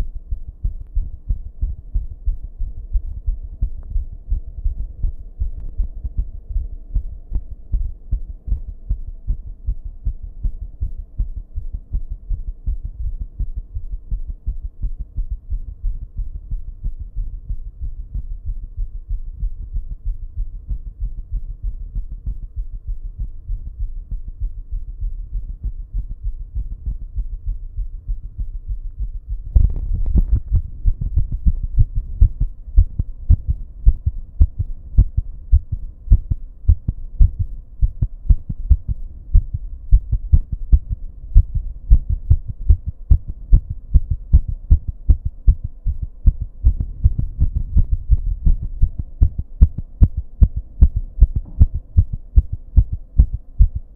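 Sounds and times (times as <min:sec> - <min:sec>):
fast heartbeat thudding: 0:00.0 - 0:53.9
low electrical buzz: 0:00.0 - 0:53.9.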